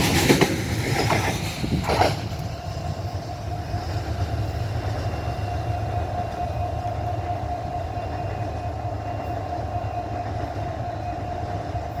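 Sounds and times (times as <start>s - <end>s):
train wagons rumbling: 0.0s - 12.0s.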